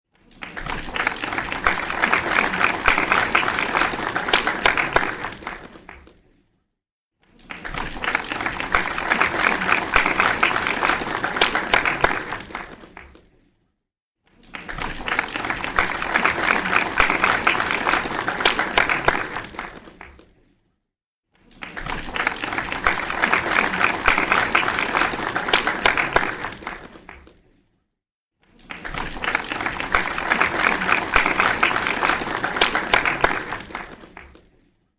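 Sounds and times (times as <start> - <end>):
crowd applause: 0.2 - 6.2, 7.4 - 13.2, 14.4 - 20.3, 21.5 - 27.4, 28.6 - 34.5.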